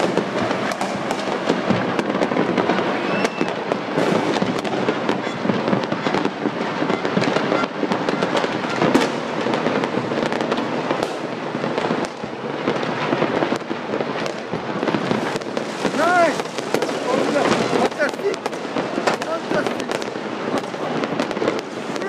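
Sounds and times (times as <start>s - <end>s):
fireworks and firecrackers bangs: 0.0s - 22.0s.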